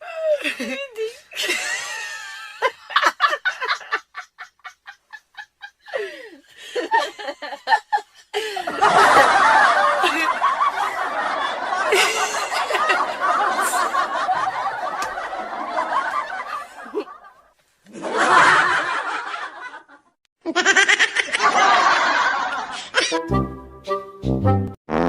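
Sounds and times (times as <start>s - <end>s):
people laughing: 0.4s - 23.2s.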